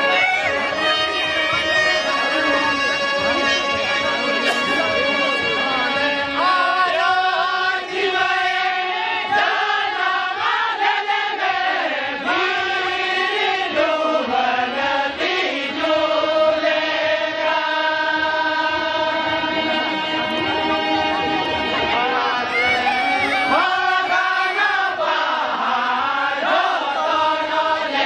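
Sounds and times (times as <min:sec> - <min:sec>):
group singing in unison: 0:04.3 - 0:28.0.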